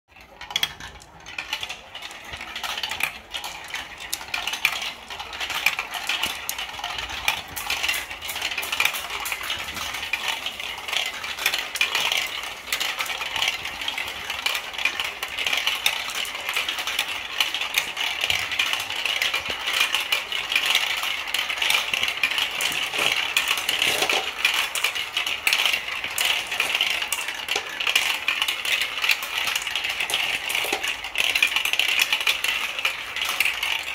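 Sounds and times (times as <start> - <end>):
marbles rattling down plastic chutes: 0.1 - 33.9.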